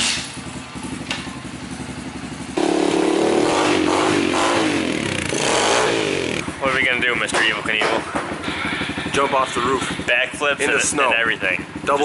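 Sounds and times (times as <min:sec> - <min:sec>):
small motorcycle engine revving: 0:00.0 - 0:06.7, 0:08.3 - 0:12.0.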